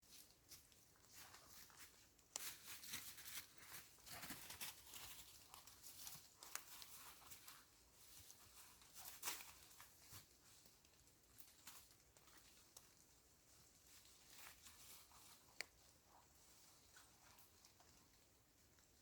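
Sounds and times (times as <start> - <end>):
faint crunching and rustling: 0.0 - 19.0.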